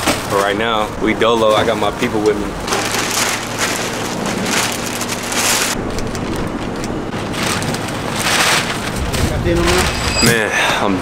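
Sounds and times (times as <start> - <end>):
plastic bags crinkling and rustling: 0.0 - 10.1.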